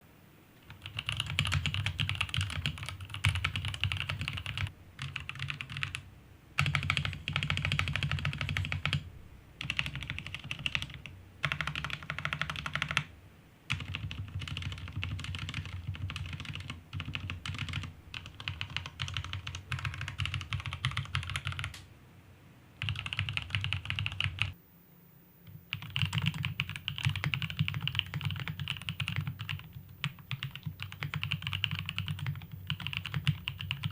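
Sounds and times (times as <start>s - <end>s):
fast mechanical keyboard typing: 0.6s - 6.0s, 6.6s - 9.0s, 9.6s - 13.1s, 13.7s - 21.7s, 22.8s - 24.6s, 25.5s - 33.9s.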